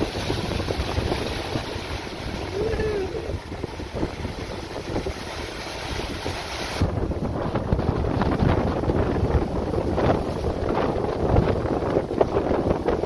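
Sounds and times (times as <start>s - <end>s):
waves breaking: 0.0s - 13.0s
wind buffeting microphone: 0.0s - 13.0s.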